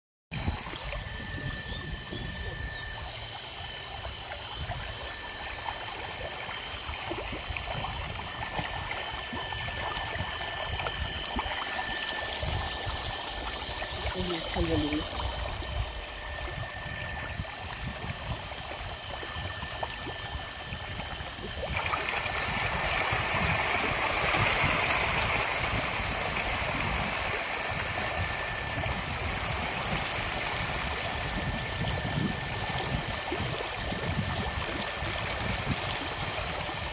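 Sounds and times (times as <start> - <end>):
running water rushing: 0.4 - 36.9.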